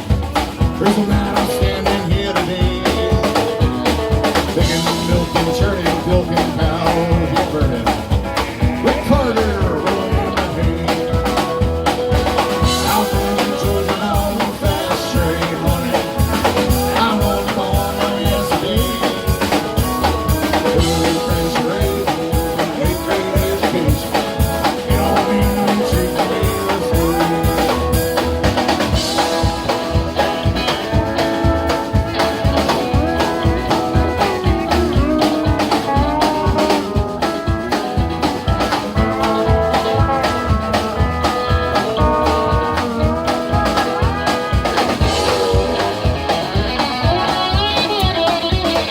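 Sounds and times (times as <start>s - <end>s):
drum kit beat: 0.0s - 48.9s
live band playing: 0.0s - 48.9s.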